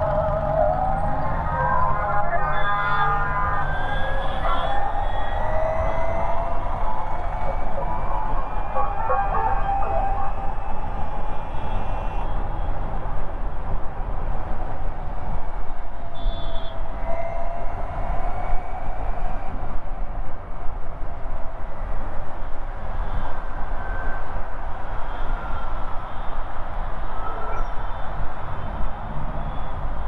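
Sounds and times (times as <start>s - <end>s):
wind and road noise rumble: 0.0s - 30.0s.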